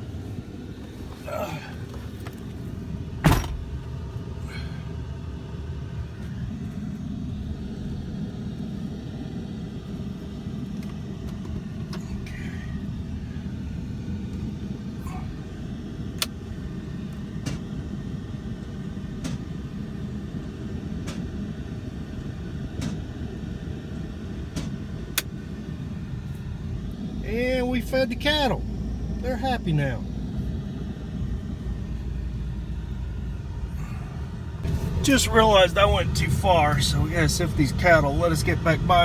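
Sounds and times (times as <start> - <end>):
vehicle engine and tyres rumbling: 0.0 - 39.0.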